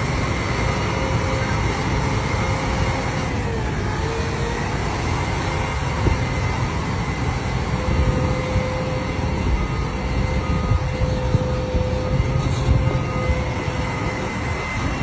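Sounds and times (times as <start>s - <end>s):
heavy machinery engine rumble: 0.0s - 15.0s.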